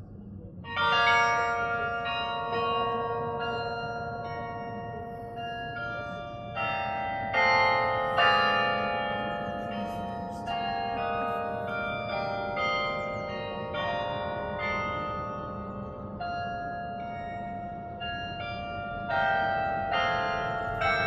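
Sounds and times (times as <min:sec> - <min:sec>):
carillon bell melody: 0:00.7 - 0:21.0.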